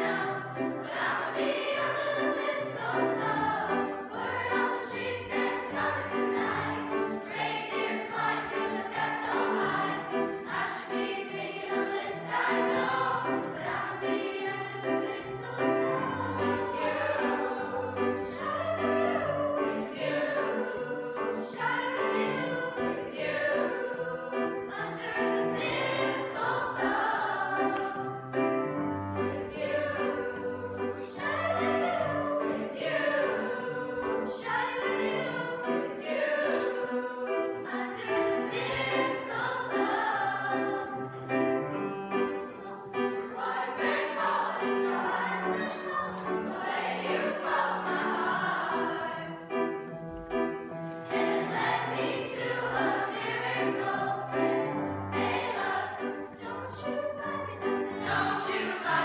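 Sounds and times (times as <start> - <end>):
youth choir singing in parts: 0.0 - 49.9, 51.0 - 59.0.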